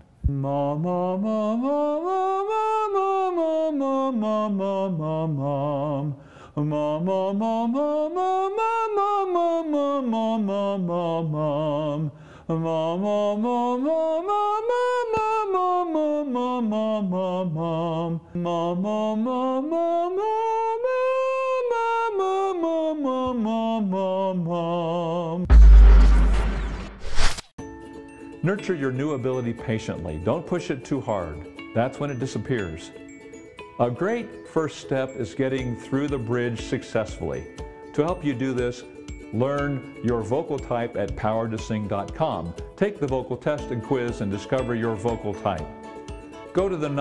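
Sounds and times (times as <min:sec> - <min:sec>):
man singing vocal glides: 0:00.2 - 0:25.5, 0:33.8 - 0:45.9, 0:46.5 - 0:47.0.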